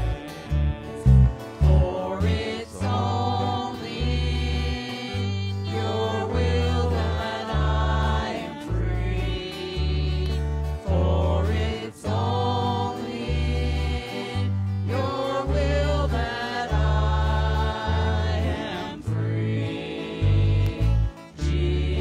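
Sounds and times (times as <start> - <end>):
acoustic guitar: 0.0 - 22.0
bass guitar: 0.0 - 22.0
voices singing together: 0.0 - 22.0.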